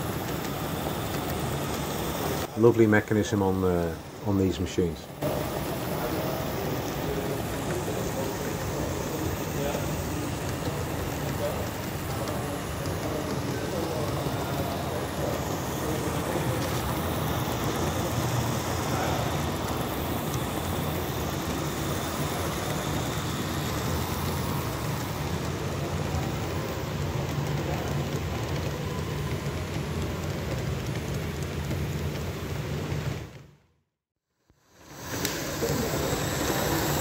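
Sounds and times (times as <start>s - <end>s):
steam hissing: 0.0s - 33.2s, 34.5s - 37.0s.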